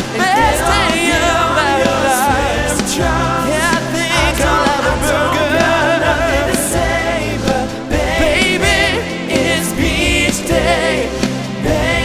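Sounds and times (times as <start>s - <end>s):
upbeat pop song with singing: 0.0s - 12.0s.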